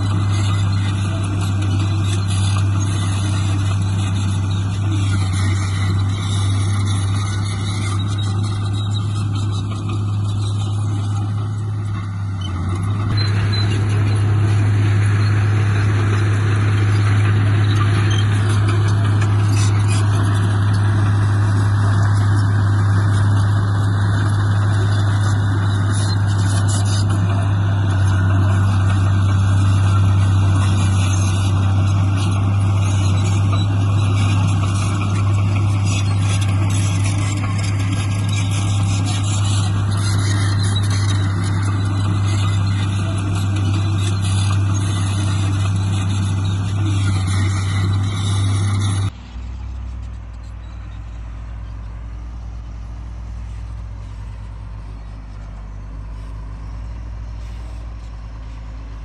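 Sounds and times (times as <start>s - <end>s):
diesel construction machinery: 0.0s - 59.0s.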